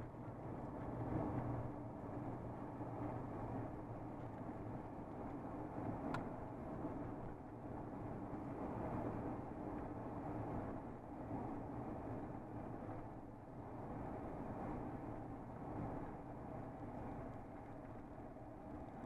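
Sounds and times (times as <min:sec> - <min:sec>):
vehicle engine hum and road noise: 0:00.0 - 0:19.0.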